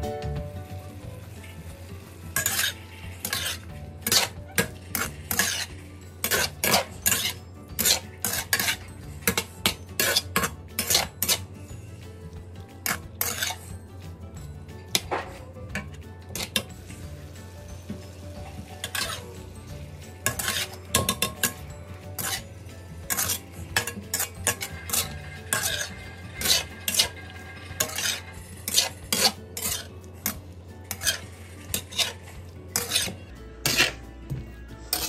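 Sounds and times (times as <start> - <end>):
utensil scraping in a pan: 0.6 - 13.9, 14.8 - 34.1.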